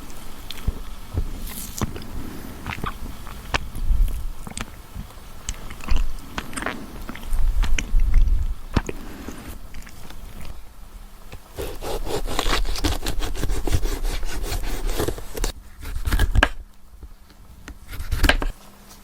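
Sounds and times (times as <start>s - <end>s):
rough scraping and rubbing: 0.0s - 10.6s, 11.4s - 16.6s, 17.8s - 18.6s.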